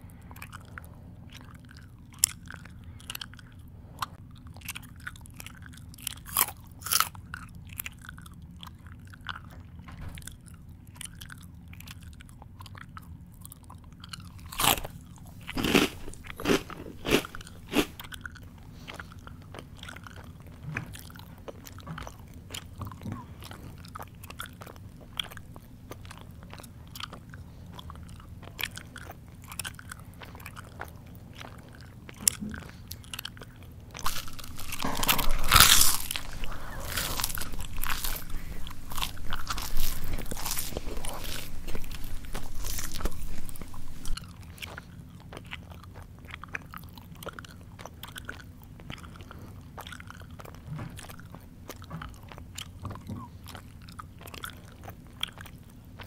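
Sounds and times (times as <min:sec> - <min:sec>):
person chewing: 0:00.2 - 0:56.0
loud crunching of crunchy food: 0:04.3 - 0:09.6, 0:10.2 - 0:56.0.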